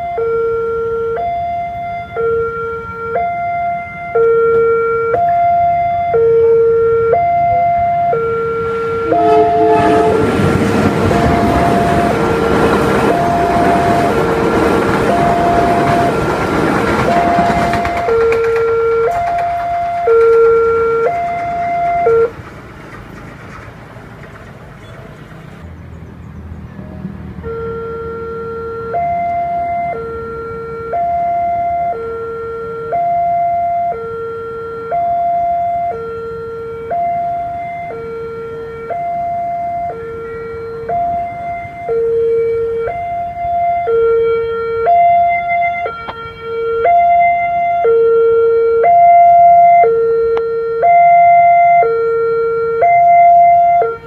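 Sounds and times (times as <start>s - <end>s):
level crossing two-tone alarm: 0.0s - 22.3s, 27.4s - 54.0s
second crossing alarm: 0.0s - 22.4s, 27.4s - 54.0s.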